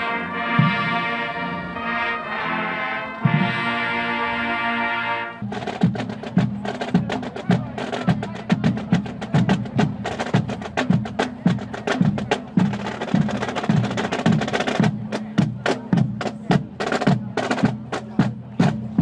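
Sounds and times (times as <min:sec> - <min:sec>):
marching drums playing: 0:00.0 - 0:02.1, 0:03.2 - 0:03.9, 0:05.4 - 0:19.0.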